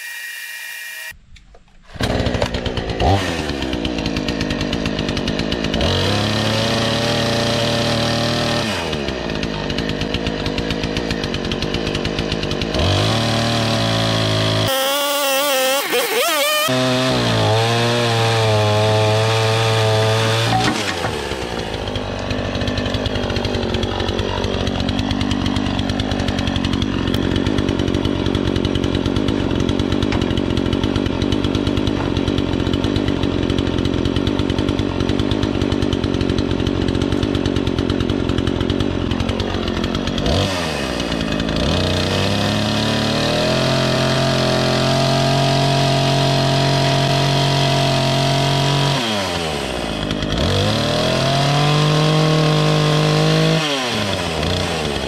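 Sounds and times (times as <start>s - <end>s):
chainsaw idling and revving: 1.8s - 55.0s.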